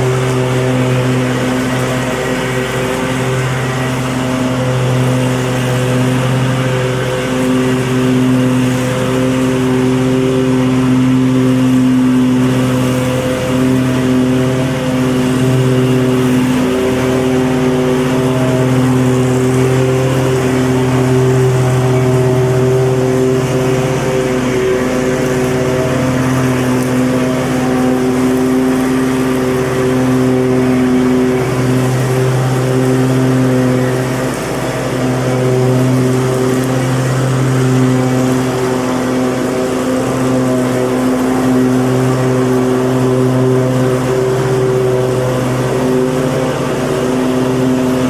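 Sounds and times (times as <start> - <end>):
lawnmower engine running: 0.0 - 48.0.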